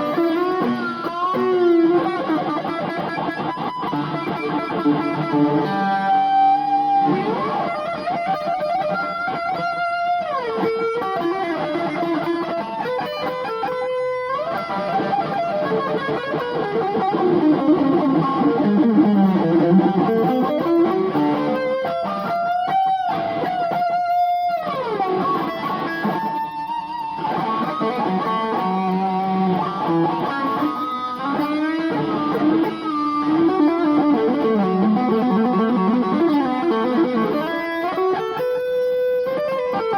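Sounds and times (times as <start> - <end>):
electric guitar solo: 0.0 - 39.9.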